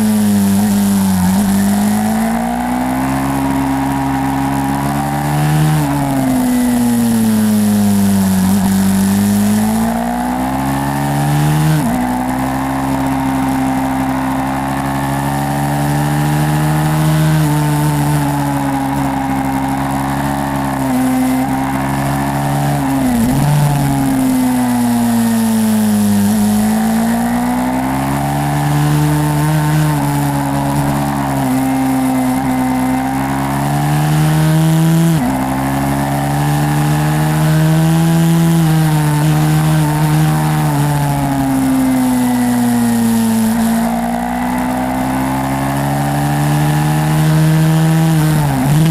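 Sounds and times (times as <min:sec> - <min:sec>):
motorbike engine revving: 0:00.0 - 0:48.9.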